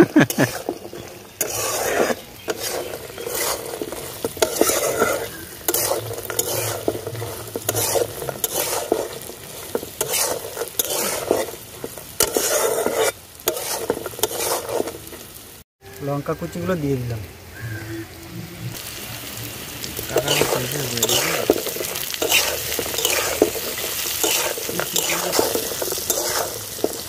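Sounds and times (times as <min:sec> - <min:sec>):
metal spatula scraping wok: 0:00.0 - 0:15.5, 0:19.7 - 0:27.0
food sizzling in oil: 0:00.0 - 0:27.0.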